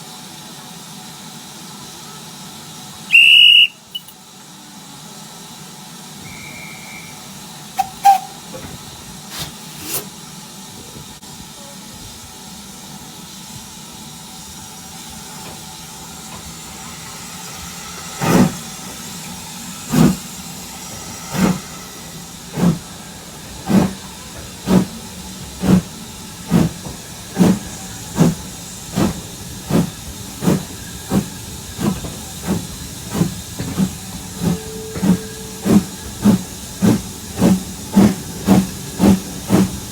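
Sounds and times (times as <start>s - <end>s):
steam locomotive hissing: 0.0s - 39.9s
locomotive exhaust chuffs: 2.3s - 4.2s, 5.3s - 39.9s.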